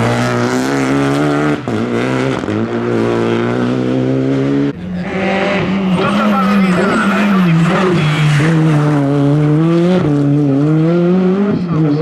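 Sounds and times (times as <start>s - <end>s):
rally car engine running hard: 0.0s - 12.0s.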